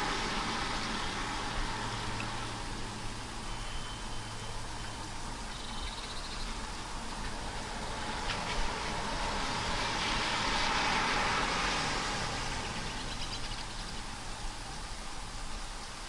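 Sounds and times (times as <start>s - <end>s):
tyre hiss on wet road: 0.0s - 5.8s, 6.6s - 16.0s
rain: 0.0s - 16.0s.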